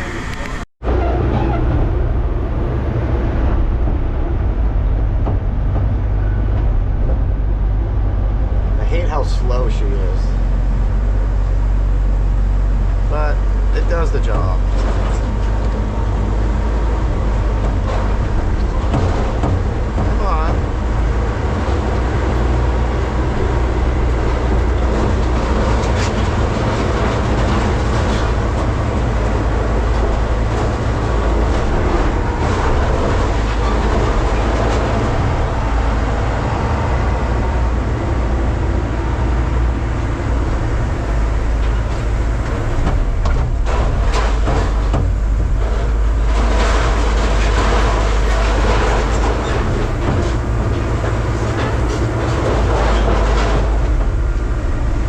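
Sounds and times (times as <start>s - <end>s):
hydraulic baler rumbling: 0.0s - 55.0s
metal clanking and crunching: 0.8s - 38.0s, 38.6s - 55.0s.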